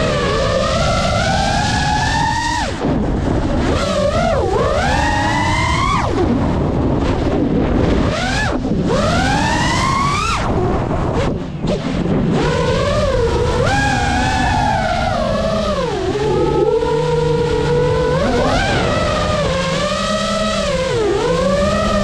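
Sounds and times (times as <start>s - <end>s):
drone motors and propellers whining: 0.0s - 22.0s
wind rumble on microphone: 0.0s - 22.0s.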